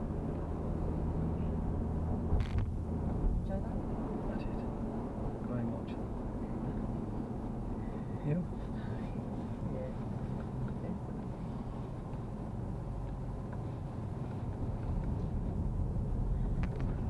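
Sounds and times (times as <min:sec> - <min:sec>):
car engine low rumble: 0:00.0 - 0:17.0
road noise: 0:00.0 - 0:17.0.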